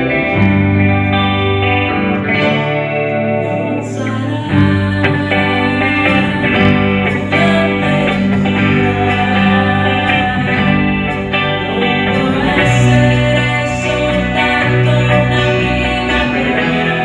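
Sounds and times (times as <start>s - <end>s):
guitar: 0.0s - 17.0s
live band playing: 0.0s - 17.0s
sustained bass line: 0.0s - 17.0s.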